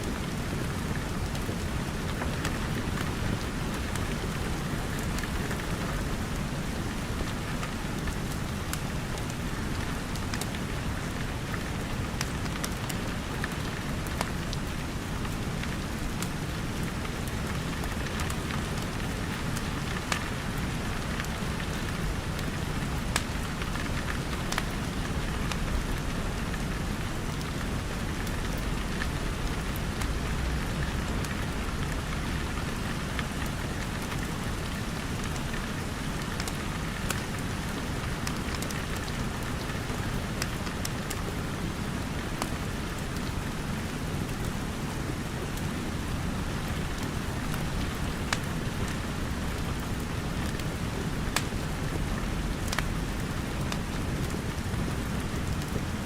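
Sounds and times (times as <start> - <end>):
rain pattering: 0.0 - 56.0
wood fire crackling: 0.0 - 56.0.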